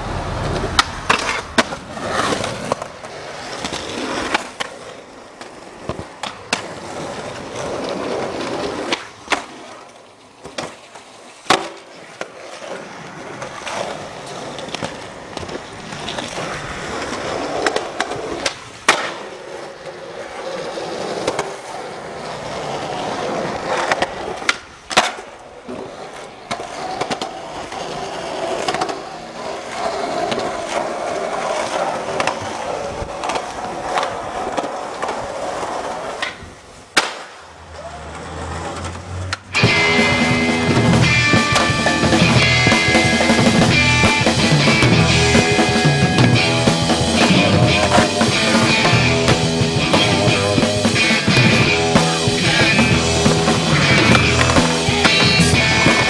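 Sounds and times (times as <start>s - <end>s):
skateboard wheels rolling on concrete: 0.0s - 56.0s
skateboard clacks: 0.2s - 56.0s.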